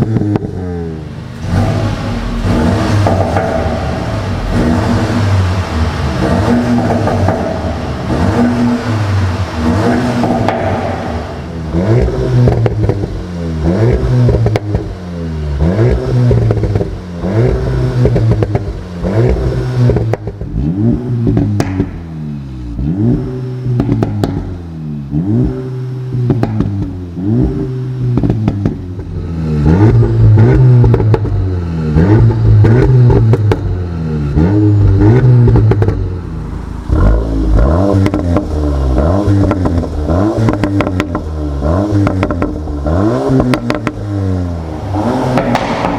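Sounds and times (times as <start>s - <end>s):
exhaust crackles and pops: 0.0s - 0.6s, 1.4s - 15.0s, 15.6s - 22.1s, 23.1s - 24.7s, 26.2s - 36.2s, 36.8s - 44.2s
car exhaust revving: 0.0s - 45.9s.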